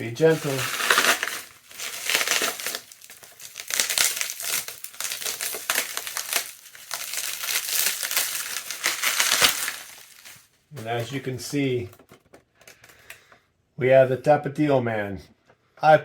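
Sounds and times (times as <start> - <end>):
plastic wrap crinkling: 0.0 - 13.2.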